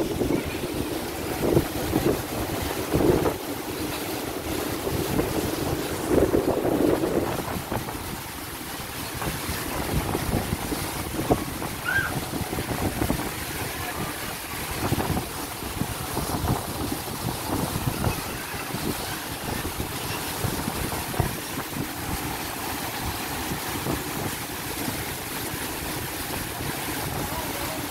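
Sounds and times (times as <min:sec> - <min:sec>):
rush of churned water: 0:00.0 - 0:27.9
wind buffeting microphone: 0:00.0 - 0:27.9.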